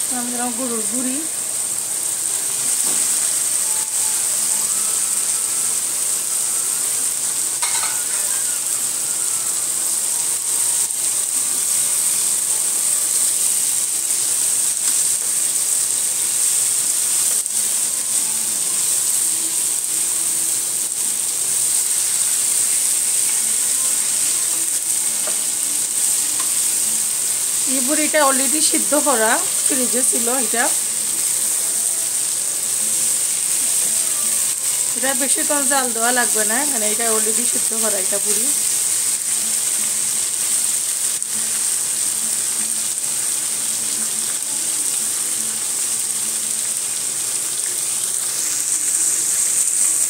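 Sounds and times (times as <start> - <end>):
tripe sizzling in oil: 0.0 - 50.0.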